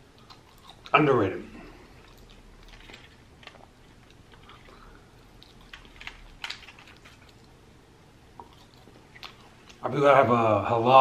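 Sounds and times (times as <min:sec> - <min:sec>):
close-up chewing: 0:00.0 - 0:09.9.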